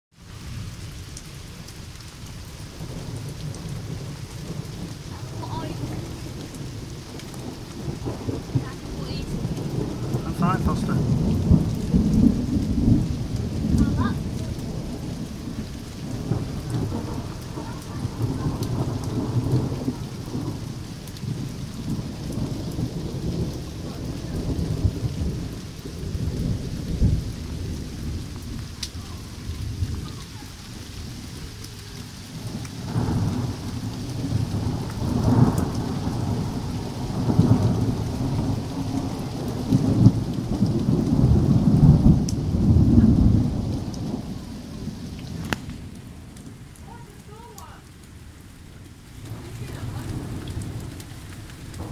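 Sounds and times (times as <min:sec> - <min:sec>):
steady rain: 0:00.1 - 0:51.9
water dripping: 0:00.3 - 0:51.9
thunder rumbling: 0:00.4 - 0:51.9.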